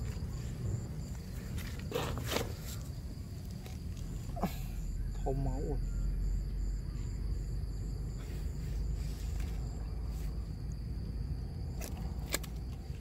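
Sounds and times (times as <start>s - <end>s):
insects chirring: 0.0s - 13.0s
low outdoor rumble: 0.0s - 13.0s.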